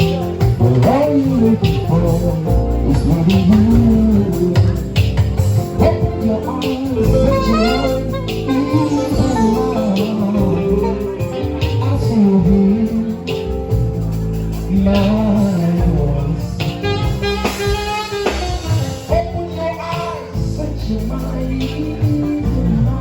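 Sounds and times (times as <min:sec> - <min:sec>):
person singing over instruments: 0:00.0 - 0:23.0.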